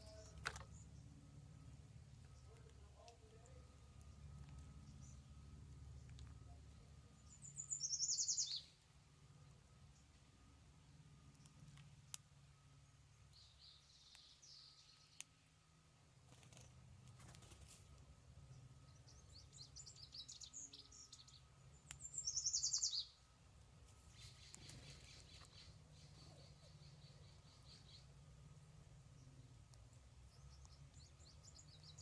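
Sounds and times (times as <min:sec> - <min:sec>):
birds chirping: 0:00.0 - 0:10.2, 0:11.2 - 0:15.3, 0:18.4 - 0:32.0.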